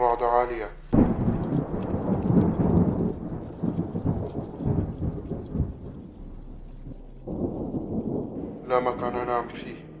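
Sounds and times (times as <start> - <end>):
heavy rain: 0.0 - 10.0
thunder rumbling: 0.0 - 10.0.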